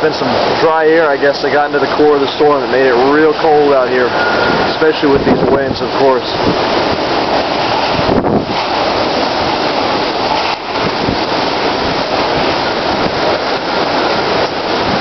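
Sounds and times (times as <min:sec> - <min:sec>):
heavy rain: 0:00.0 - 0:15.0
strong wind: 0:00.0 - 0:15.0
wind buffeting microphone: 0:00.0 - 0:15.0.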